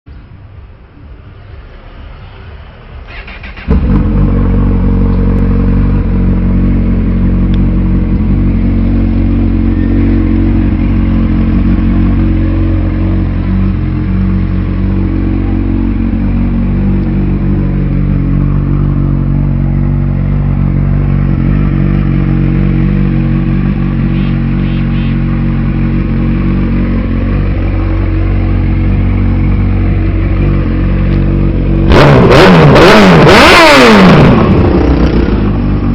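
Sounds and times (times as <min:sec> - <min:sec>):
motorcycle engine idling: 0:03.6 - 0:31.9, 0:34.3 - 0:35.9.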